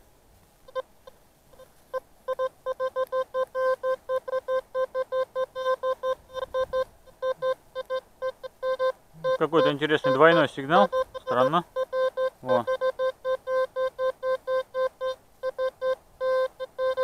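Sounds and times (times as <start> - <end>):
metal detector beeping: 0.7 - 0.9, 1.5 - 17.0.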